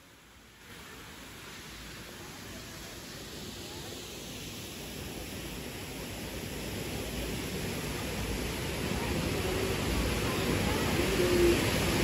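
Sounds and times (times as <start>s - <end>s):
waterfall rushing: 0.4s - 12.0s.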